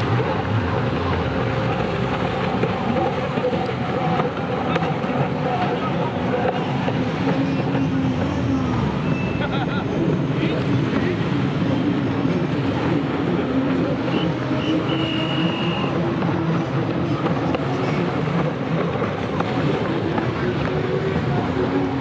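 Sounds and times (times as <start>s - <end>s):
jet ski engines droning: 0.0s - 22.0s.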